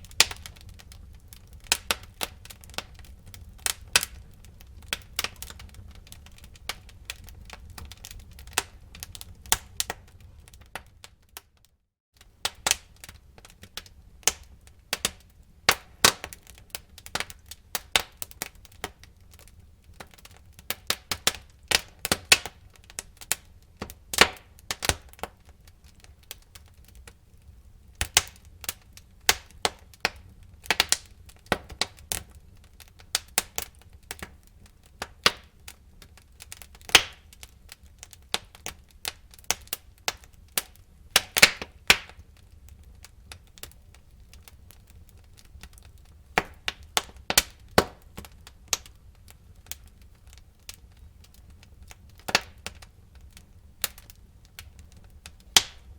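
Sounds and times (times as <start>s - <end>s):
low fire rumble: 0.0s - 11.6s, 12.2s - 55.9s
wood fire crackling: 0.0s - 55.9s.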